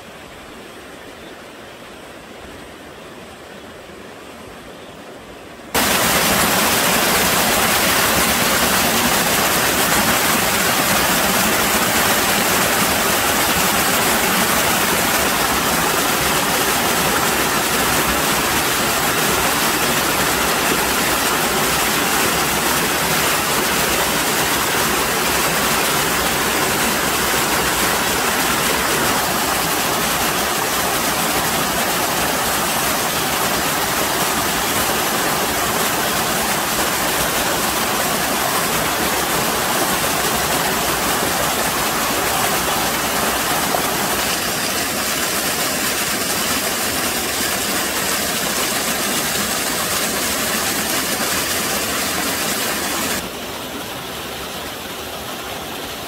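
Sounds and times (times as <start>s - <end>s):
waterfall splashing over rocks: 5.7s - 56.0s.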